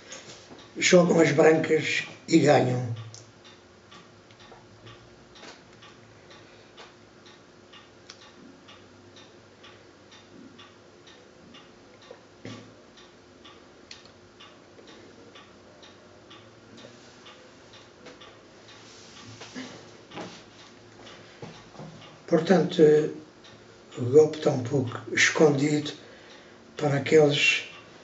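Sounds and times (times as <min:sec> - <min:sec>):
clock ticking: 0:00.0 - 0:28.0.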